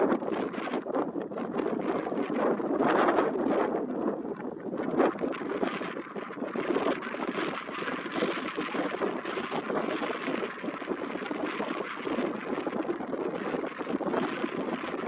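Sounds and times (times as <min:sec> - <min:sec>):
gusty wind on microphone: 0:00.0 - 0:15.0.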